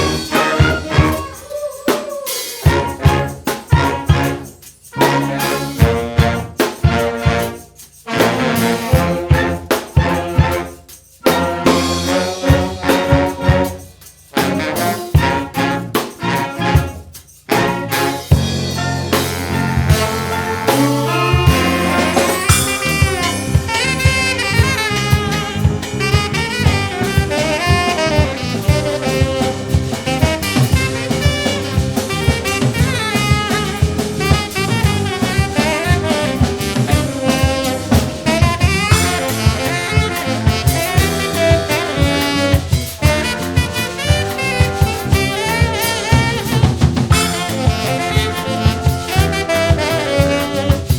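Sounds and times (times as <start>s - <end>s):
brass band playing: 0.0s - 1.5s, 2.3s - 50.9s.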